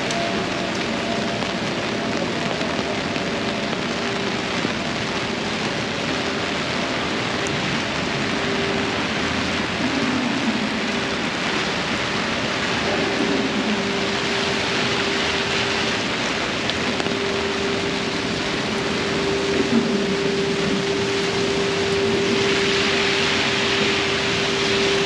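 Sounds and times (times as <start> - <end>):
city traffic: 0.0 - 25.0
heavy rain on umbrella: 0.0 - 25.0.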